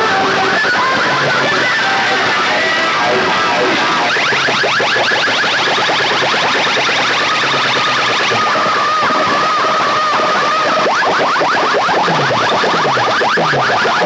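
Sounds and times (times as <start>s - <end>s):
loud distorted electronic music: 0.0s - 14.0s
rising siren-like sweeps: 0.0s - 14.0s.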